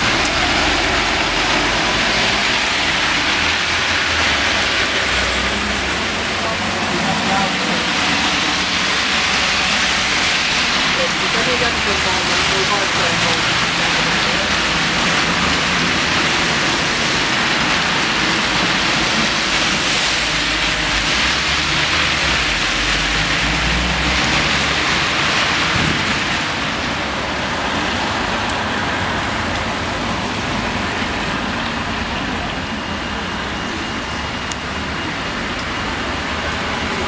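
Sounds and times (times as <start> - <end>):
tyres hissing through water: 0.0 - 37.0.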